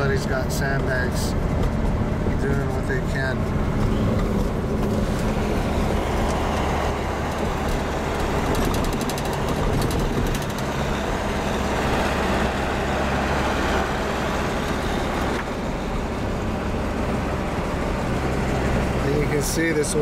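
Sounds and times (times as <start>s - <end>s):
car engine and tyre road noise: 0.0s - 20.0s.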